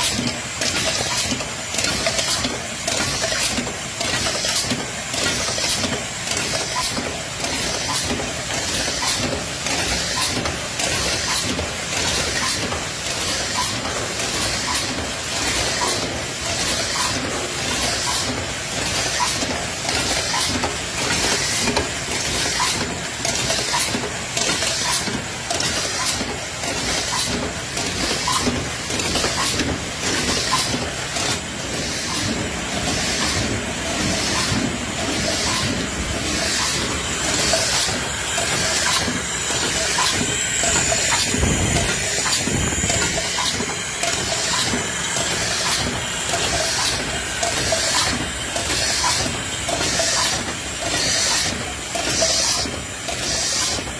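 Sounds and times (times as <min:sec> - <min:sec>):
machine hiss: 0:00.0 - 0:53.9
machine running with light clicking: 0:00.0 - 0:53.9.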